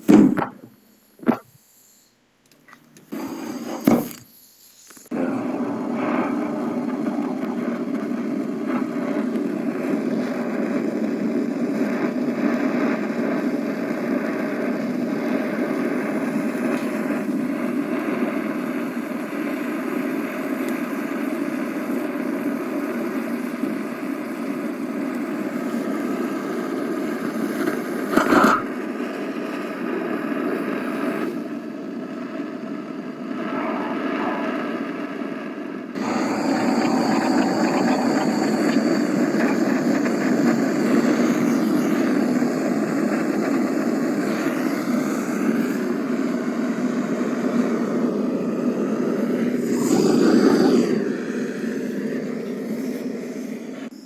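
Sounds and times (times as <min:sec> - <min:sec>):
chemical burning with rushing noise: 0:03.1 - 0:54.0.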